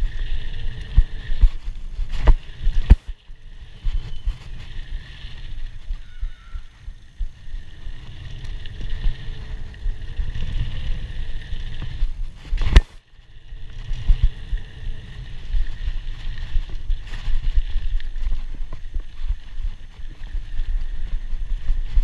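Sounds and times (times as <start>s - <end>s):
bike rattle: 0.0s - 22.0s
bike tyres rumbling on dirt: 0.0s - 22.0s.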